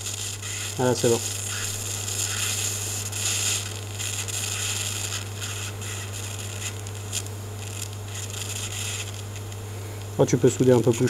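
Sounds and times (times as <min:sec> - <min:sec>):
steady low hum: 0:00.0 - 0:11.0
welding arc hissing and crackling: 0:00.0 - 0:11.0.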